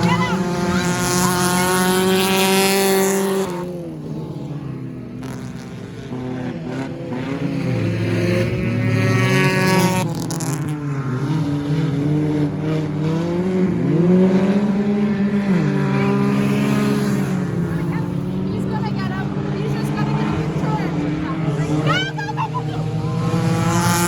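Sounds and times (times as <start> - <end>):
stock car engines racing: 0.0 - 24.0.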